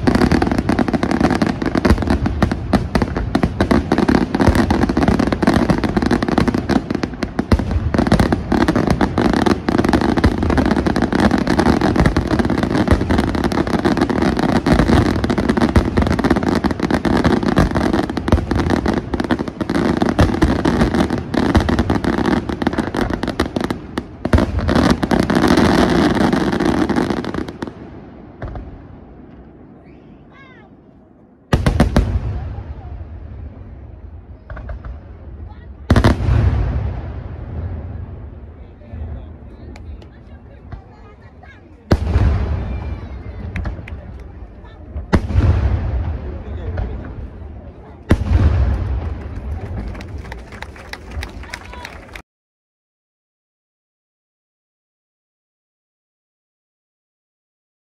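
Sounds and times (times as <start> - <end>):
fireworks bursting: 0.0 - 52.2
fireworks crackle: 0.0 - 52.2.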